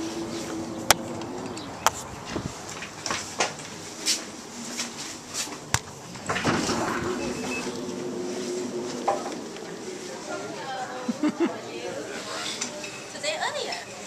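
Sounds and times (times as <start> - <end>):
room noise: 0.0 - 13.4.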